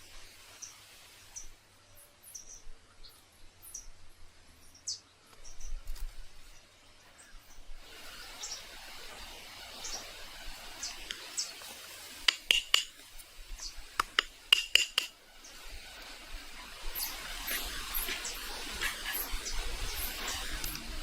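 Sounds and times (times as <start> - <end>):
faint hiss: 0.0 - 21.0.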